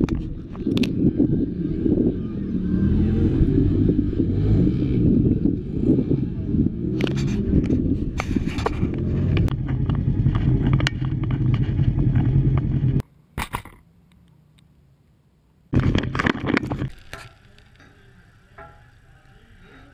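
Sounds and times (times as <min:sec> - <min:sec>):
faint outdoor background: 0:00.0 - 0:19.9
off-road vehicle engine rumbling: 0:00.0 - 0:19.9.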